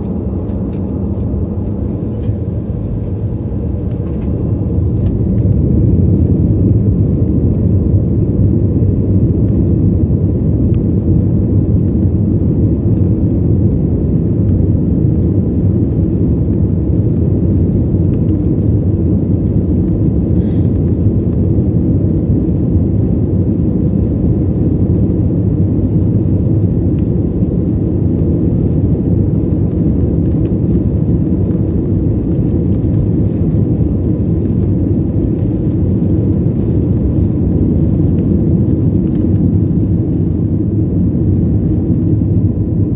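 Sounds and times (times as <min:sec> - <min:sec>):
airliner engine low rumble: 0:00.0 - 0:42.9.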